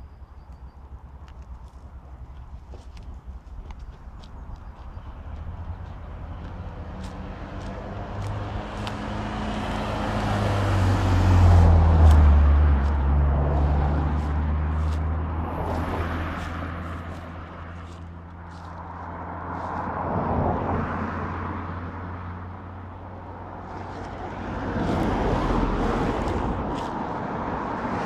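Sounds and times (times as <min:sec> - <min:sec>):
vehicle engine passing by: 0:04.3 - 0:28.0.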